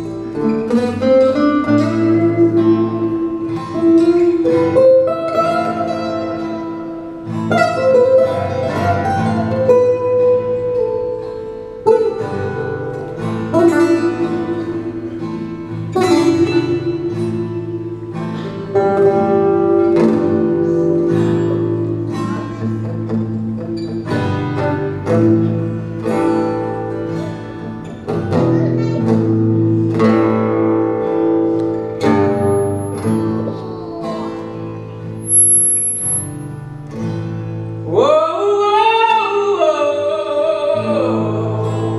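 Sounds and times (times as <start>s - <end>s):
acoustic guitars playing: 0.0s - 41.9s.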